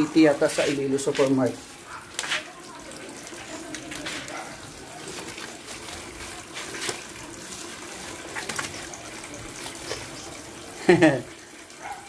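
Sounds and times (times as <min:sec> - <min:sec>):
water running from a tap: 0:00.0 - 0:12.0.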